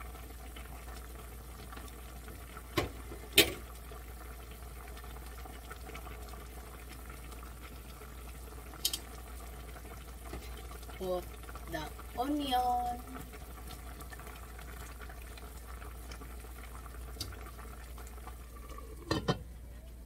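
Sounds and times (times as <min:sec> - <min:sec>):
stew bubbling in a pot: 0:00.0 - 0:20.0.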